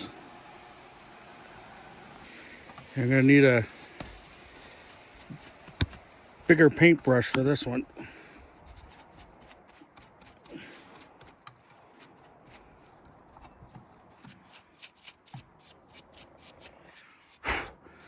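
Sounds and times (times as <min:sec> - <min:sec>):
brush flicking dust off fan blades: 0:00.0 - 0:00.9, 0:02.4 - 0:18.0.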